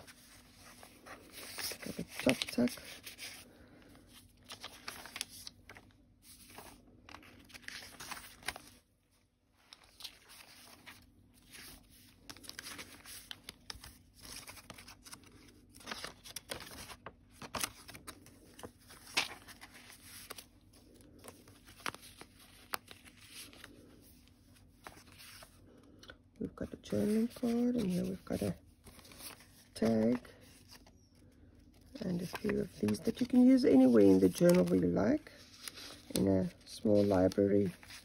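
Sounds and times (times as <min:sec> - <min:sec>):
paper rustling and crinkling: 0:00.0 - 0:38.0.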